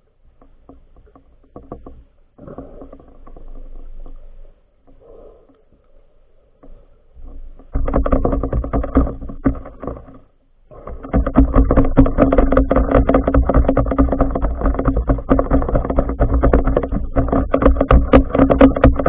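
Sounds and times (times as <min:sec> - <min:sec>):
underwater boat motor hum: 0:00.0 - 0:19.0.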